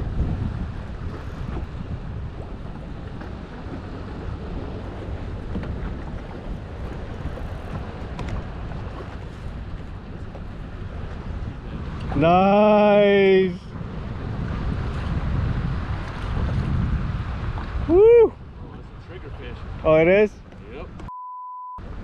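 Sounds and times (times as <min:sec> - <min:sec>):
water washing against boat: 0:00.0 - 0:21.1
wind rumble on microphone: 0:00.0 - 0:21.1.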